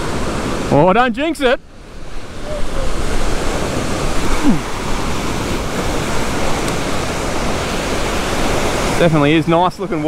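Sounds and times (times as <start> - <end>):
ocean waves breaking: 0.0 - 10.0.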